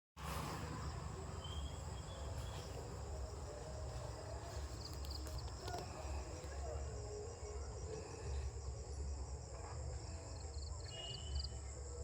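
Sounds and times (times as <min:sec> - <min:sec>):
crickets chirring: 0:00.2 - 0:12.0.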